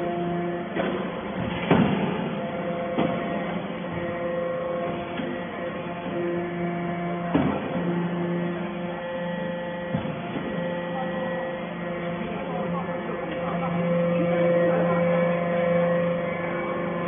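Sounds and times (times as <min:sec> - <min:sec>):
hydraulic power unit hum: 0:00.0 - 0:17.0.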